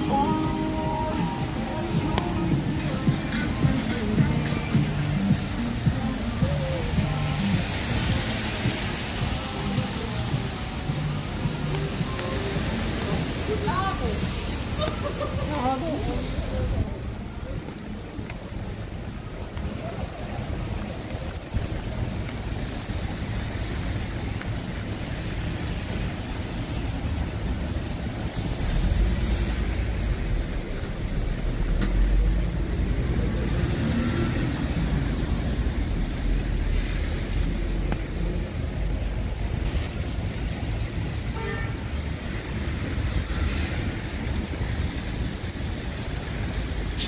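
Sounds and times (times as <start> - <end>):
low traffic rumble: 0.0 - 47.0
tyre hiss on wet road: 4.0 - 16.7, 18.8 - 47.0.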